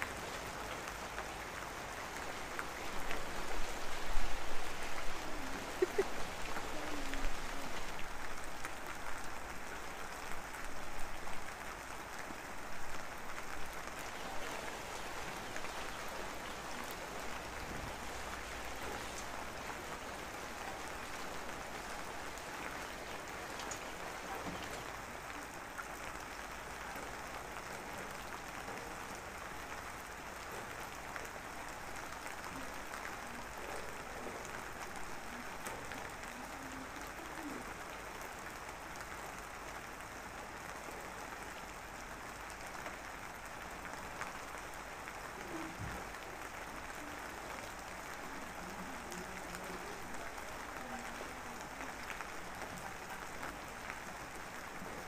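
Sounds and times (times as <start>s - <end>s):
rain falling steadily: 0.0s - 55.0s
faint raindrop ticks: 4.1s - 55.0s.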